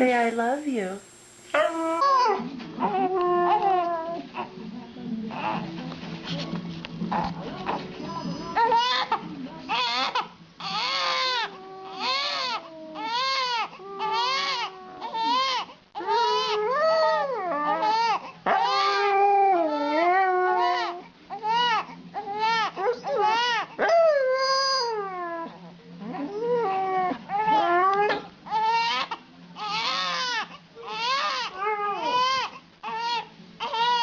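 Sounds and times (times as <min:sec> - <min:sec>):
dog whining and howling: 0:01.6 - 0:04.4, 0:08.1 - 0:29.0, 0:29.6 - 0:34.0.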